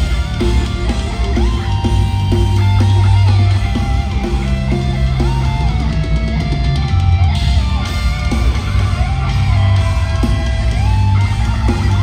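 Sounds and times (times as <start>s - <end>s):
distorted electric guitars: 0.0s - 12.0s
drums: 0.0s - 12.0s.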